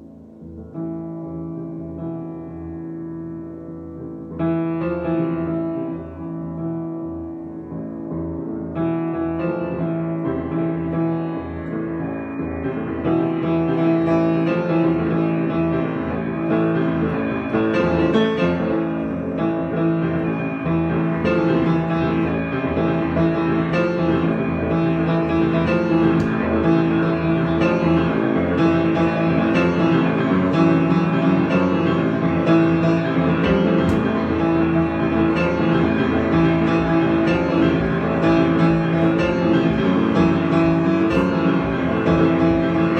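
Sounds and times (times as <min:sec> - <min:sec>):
improvised piano music: 0:00.0 - 0:42.9.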